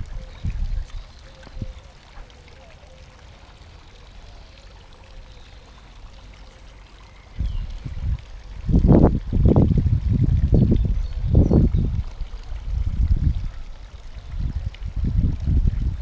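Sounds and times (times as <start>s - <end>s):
fountain trickling into pond: 0.0s - 16.0s.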